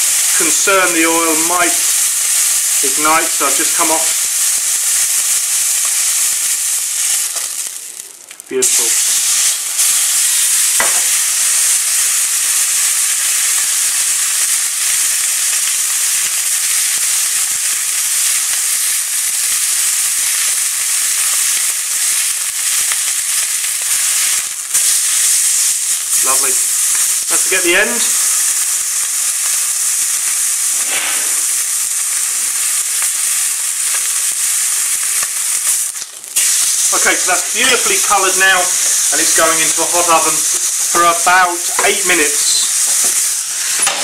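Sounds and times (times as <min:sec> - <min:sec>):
meat sizzling in hot oil: 0:00.0 - 0:44.0.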